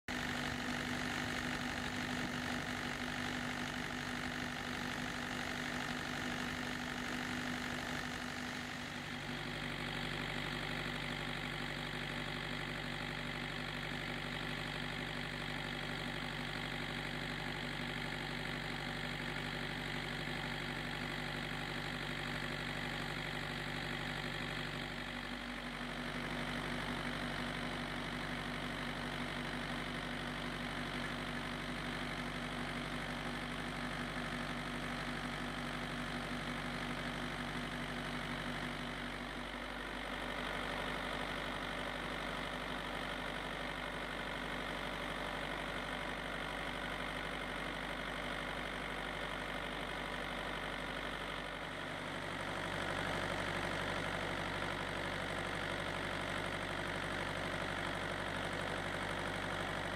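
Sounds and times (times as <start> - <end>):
diesel engine idling: 0.1 - 59.9.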